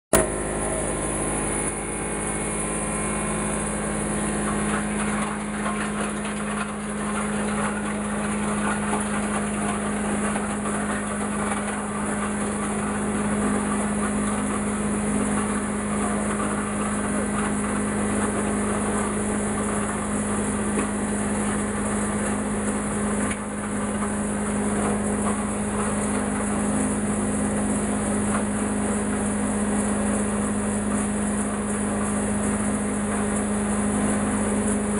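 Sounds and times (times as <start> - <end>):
wood shredder running: 0.1 - 34.9.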